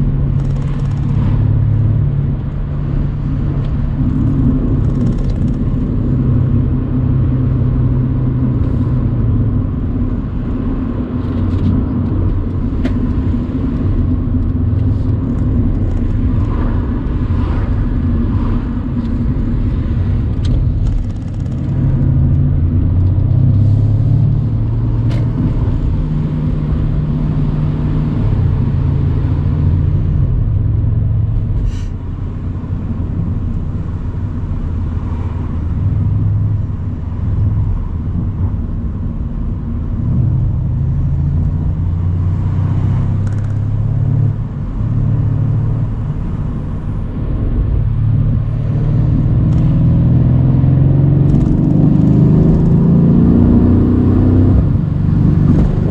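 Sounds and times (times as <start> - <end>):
car engine accelerating: 0.0 - 55.9
road noise: 0.0 - 55.9.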